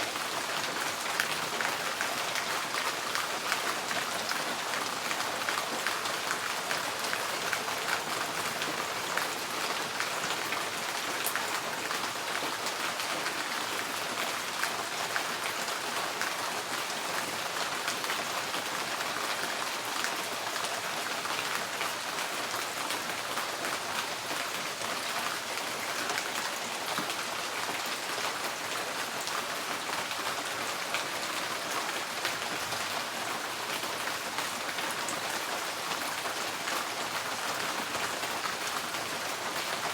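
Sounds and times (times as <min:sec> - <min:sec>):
rain pattering on a tin roof: 0:00.0 - 0:39.9.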